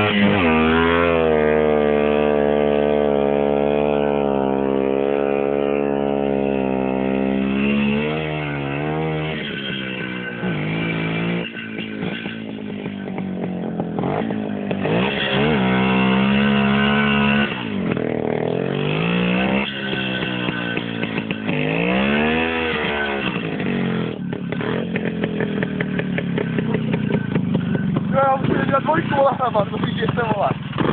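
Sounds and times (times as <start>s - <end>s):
two-stroke motorcycle engine revving: 0.0s - 30.9s.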